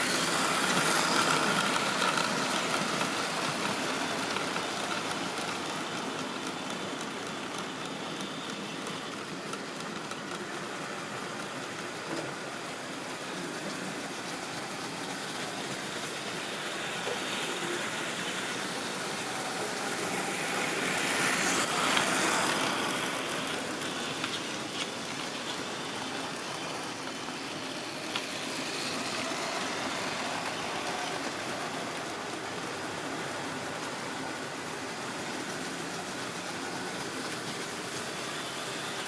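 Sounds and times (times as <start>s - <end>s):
model train whirring rumble: 0.0s - 39.0s.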